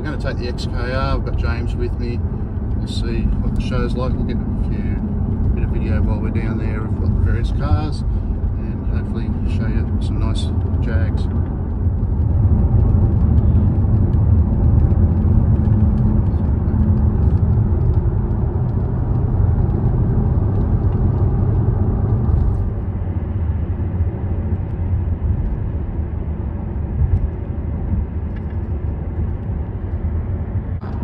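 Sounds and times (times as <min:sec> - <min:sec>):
car engine cruising: 0:00.0 - 0:31.0
tyre and wind rumble: 0:00.0 - 0:31.0.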